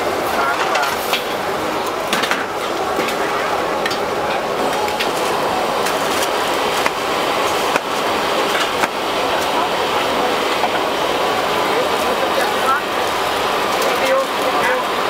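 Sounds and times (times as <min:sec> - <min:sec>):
hubbub of voices: 0:00.0 - 0:15.0.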